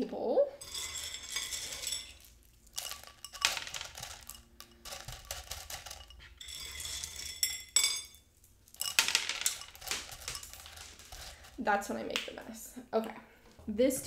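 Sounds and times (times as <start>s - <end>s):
clay pebbles clinking on a plate: 0.6s - 13.2s.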